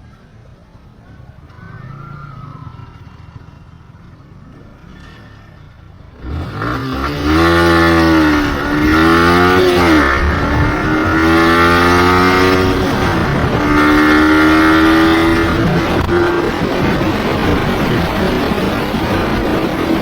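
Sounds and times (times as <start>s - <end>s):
motorcycle engine revving: 2.3s - 20.0s.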